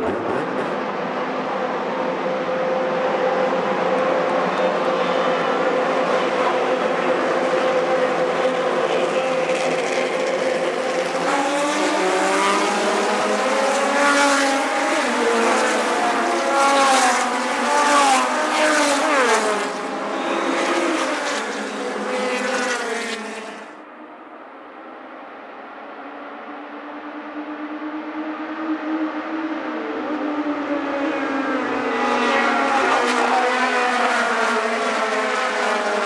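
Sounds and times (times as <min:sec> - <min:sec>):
race car engines revving: 0:00.0 - 0:23.8, 0:26.2 - 0:36.0.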